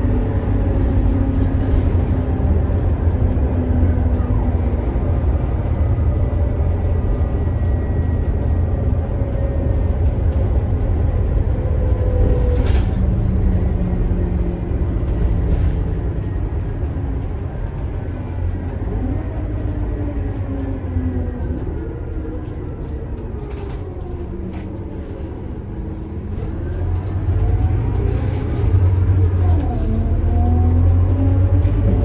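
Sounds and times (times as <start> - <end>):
bus diesel engine rumbling: 0.0 - 32.0.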